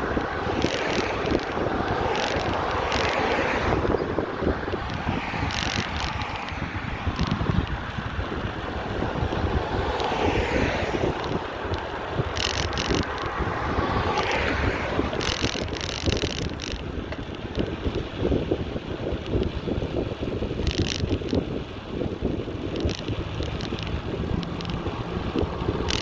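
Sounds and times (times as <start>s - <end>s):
street traffic passing: 0.0s - 26.0s
wind buffeting microphone: 0.0s - 26.0s.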